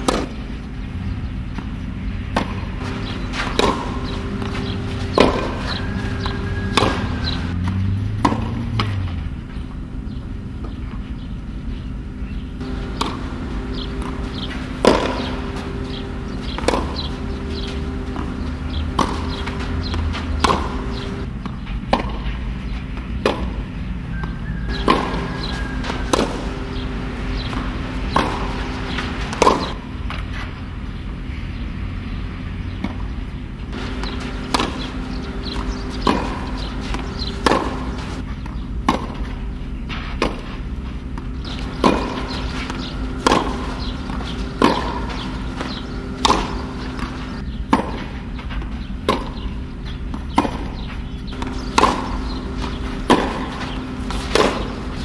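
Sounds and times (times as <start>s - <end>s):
tennis balls struck with racket: 0.0s - 11.0s, 12.6s - 31.0s, 32.7s - 55.0s
steady low hum: 0.0s - 55.0s.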